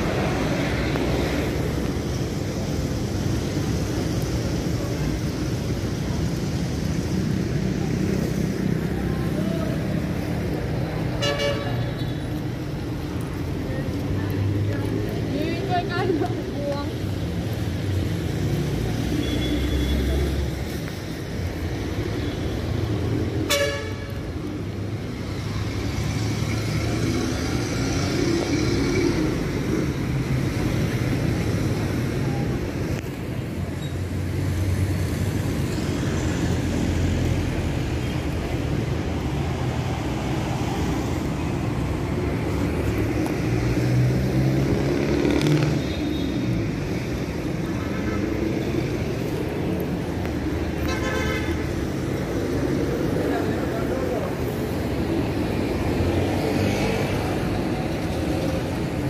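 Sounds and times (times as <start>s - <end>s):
cars and motorcycles passing: 0.0s - 59.0s.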